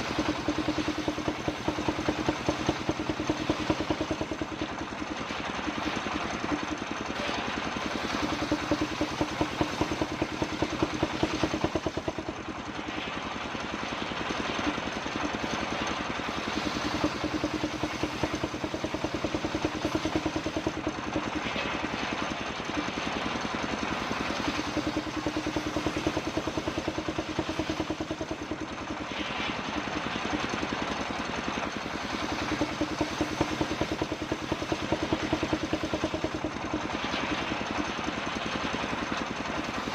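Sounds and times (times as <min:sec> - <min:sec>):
engine-driven circular saw cutting wood: 0:00.0 - 0:39.9.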